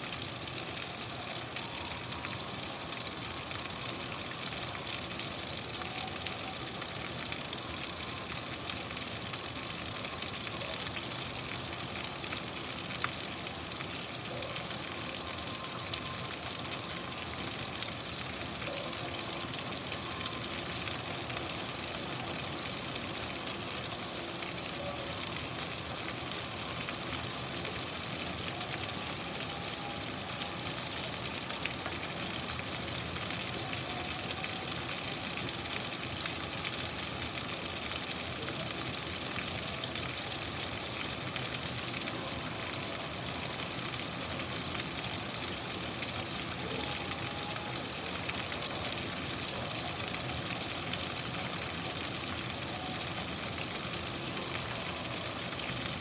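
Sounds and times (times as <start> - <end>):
rain hiss: 0.0 - 56.0.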